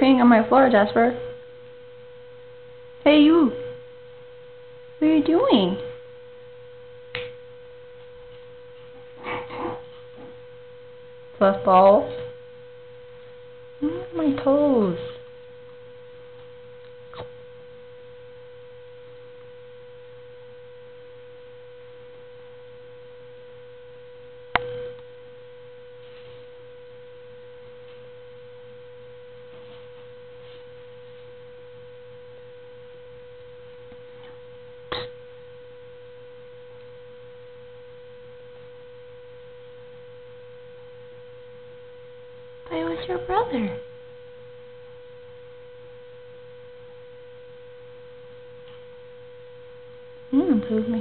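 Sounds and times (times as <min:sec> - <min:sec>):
steady mid-pitched hum: 0:00.0 - 0:51.0.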